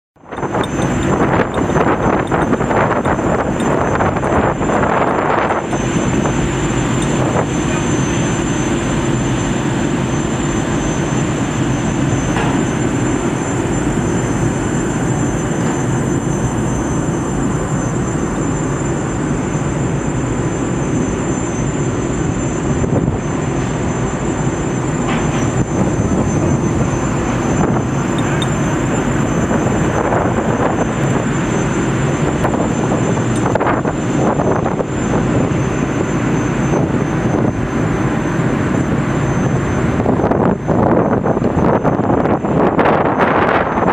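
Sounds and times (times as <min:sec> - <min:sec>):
high whine: 0:00.2 - 0:43.9
machinery drone: 0:00.2 - 0:43.9.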